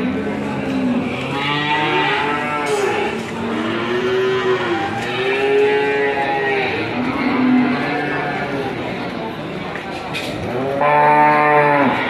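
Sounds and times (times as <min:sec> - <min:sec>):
cattle mooing: 0:00.3 - 0:08.6, 0:10.5 - 0:12.0.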